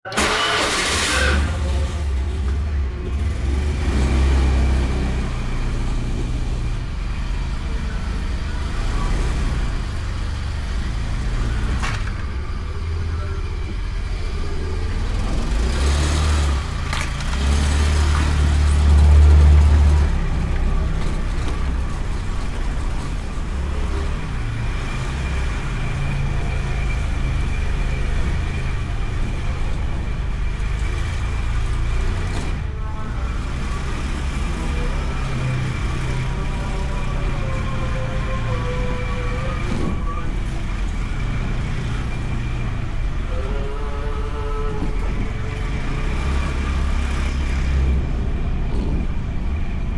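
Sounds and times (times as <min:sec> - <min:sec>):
scooter engine rumble: 0:00.0 - 0:49.9.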